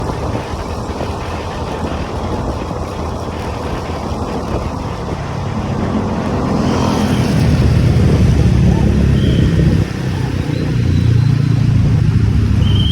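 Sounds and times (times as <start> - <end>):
motorcycle engine running: 0.0 - 12.9
wind and road noise: 0.0 - 12.9.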